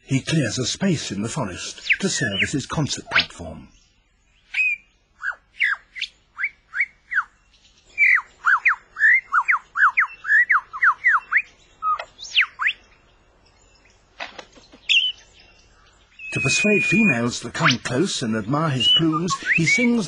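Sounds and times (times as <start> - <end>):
lyrebird singing whistled notes: 1.7 - 13.9, 14.8 - 20.0.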